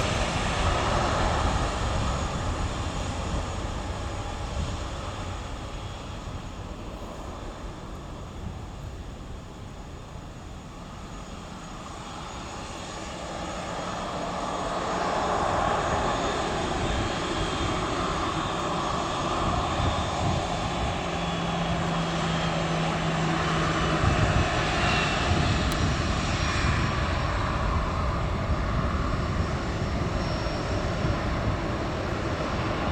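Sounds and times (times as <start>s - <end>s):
high engine whine: 0.0s - 32.9s
jet engines taxiing: 0.0s - 32.9s.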